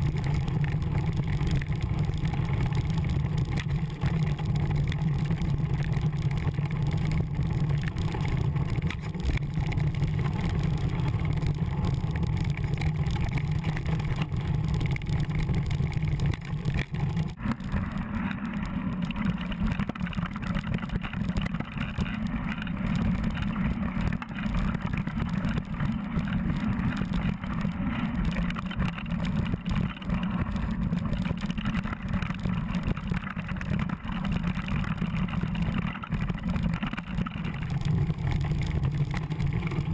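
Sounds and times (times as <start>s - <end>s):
bike rattling over rocky trail: 0.0s - 39.9s.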